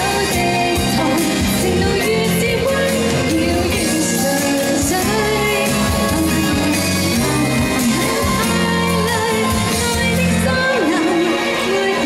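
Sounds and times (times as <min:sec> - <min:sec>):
pop ballad backing music: 0:00.0 - 0:12.0
woman singing: 0:00.0 - 0:12.0.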